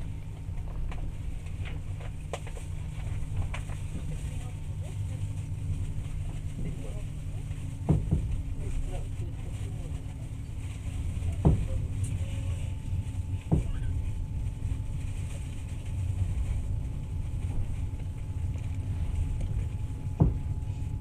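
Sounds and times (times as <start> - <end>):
faint steady whine: 0.0 - 21.0
train rolling rumble: 0.0 - 21.0.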